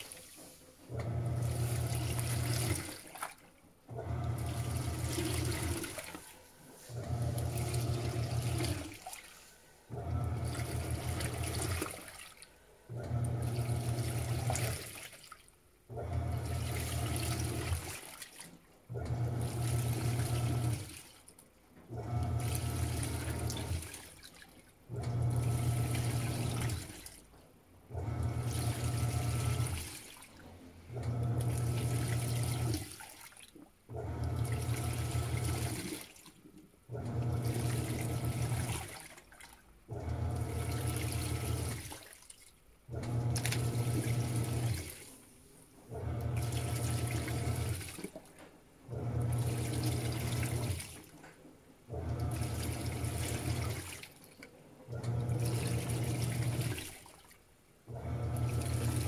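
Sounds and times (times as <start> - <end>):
washing machine motor hum: 0.0 - 21.2, 21.8 - 36.2, 36.8 - 42.2, 42.8 - 51.2, 51.8 - 57.2, 57.8 - 59.0
water churning: 0.0 - 21.4, 22.1 - 27.2, 28.0 - 51.2, 51.9 - 59.0.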